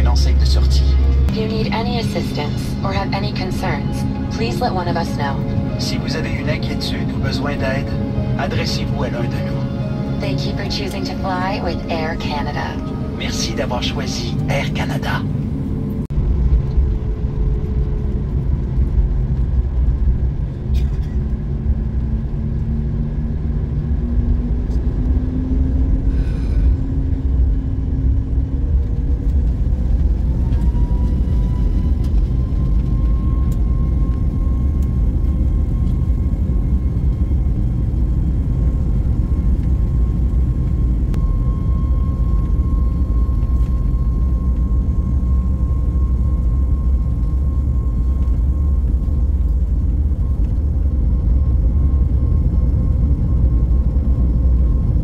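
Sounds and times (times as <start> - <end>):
jet engine rumble: 0.0 - 55.0
jet engine whine: 0.0 - 55.0.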